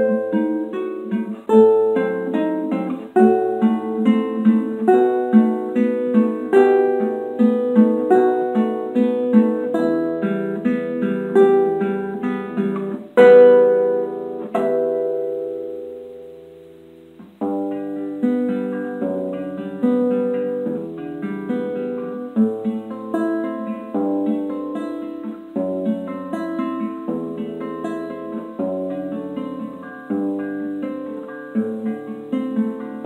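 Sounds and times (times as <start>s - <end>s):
fingerpicked classical guitar: 0.0s - 33.0s.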